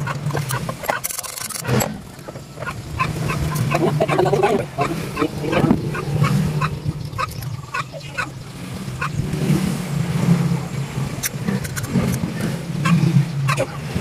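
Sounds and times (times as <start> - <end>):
small generator engine humming: 0.0 - 14.0.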